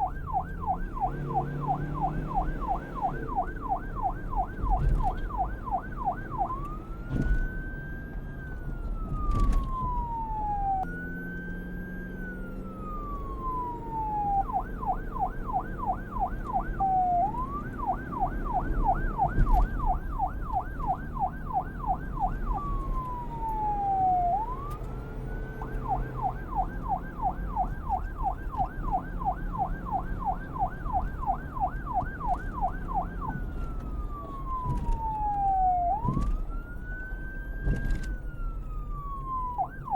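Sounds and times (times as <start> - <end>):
police siren wail and yelp: 0.0 - 39.9.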